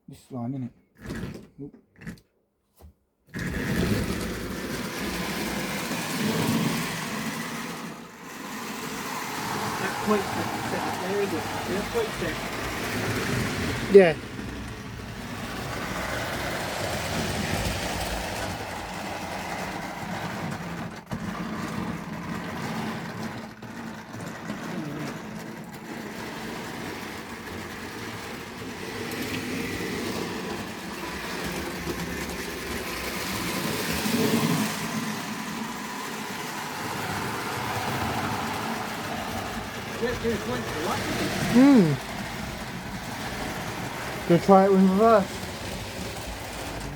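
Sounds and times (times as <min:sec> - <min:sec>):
model train motor whirring: 0:03.3 - 0:46.9
wheels rolling on rails: 0:03.3 - 0:46.9.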